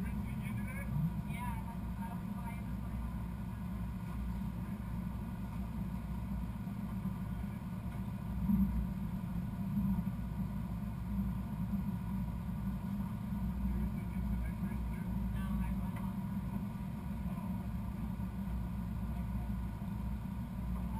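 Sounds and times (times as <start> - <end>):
low engine rumble: 0.0 - 20.9.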